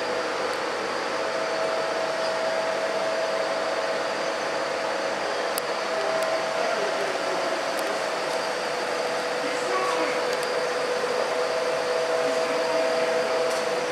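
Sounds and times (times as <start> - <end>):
held hum tone: 0.0 - 13.9
machine whirring: 0.0 - 13.9.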